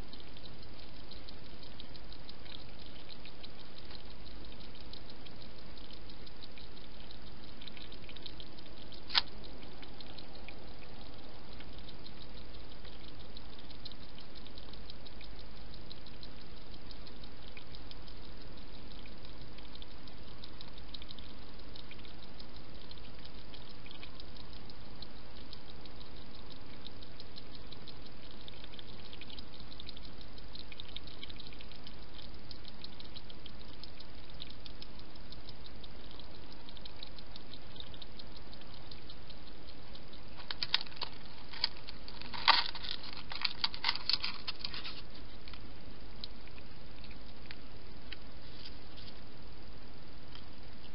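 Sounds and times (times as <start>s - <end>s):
steady hiss: 0.0s - 30.5s, 31.6s - 50.9s
hedgehog eating wet clicks: 0.0s - 49.3s.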